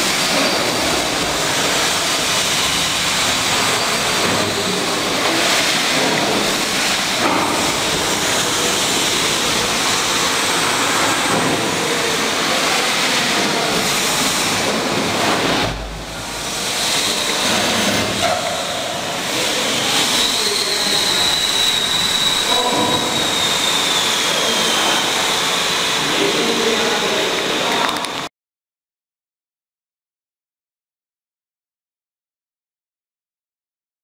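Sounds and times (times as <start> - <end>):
steam winding engine running: 0.0 - 15.6, 16.2 - 28.2.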